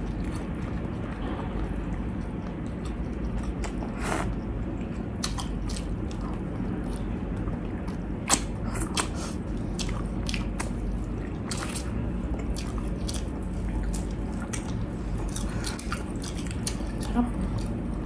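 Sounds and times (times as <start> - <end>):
people chewing wetly: 0.0 - 18.0.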